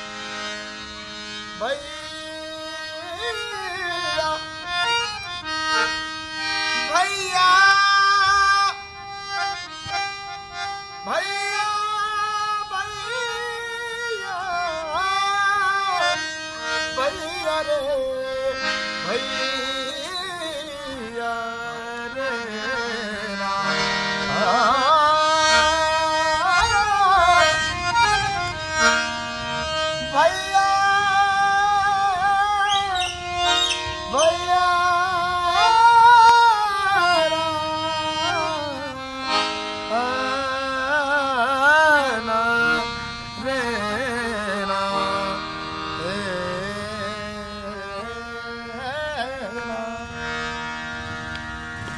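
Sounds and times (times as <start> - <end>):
man singing devotional song: 0.0 - 51.0
harmonium playing: 0.0 - 51.9.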